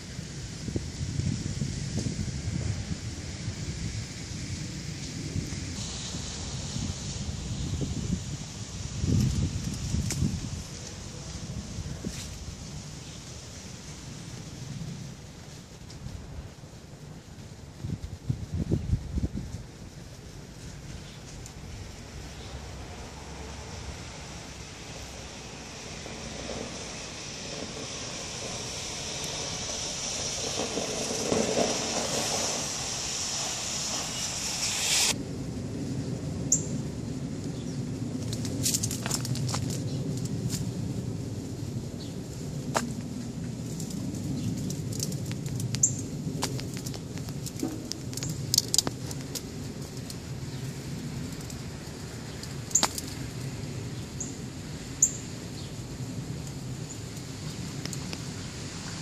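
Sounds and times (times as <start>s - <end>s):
traffic on wet street: 0.0s - 59.0s
low rumble: 0.8s - 52.2s.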